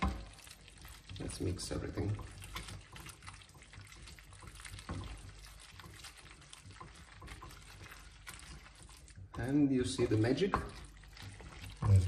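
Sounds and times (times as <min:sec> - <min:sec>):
wooden spoon mixing wet pasta: 0:00.0 - 0:12.0.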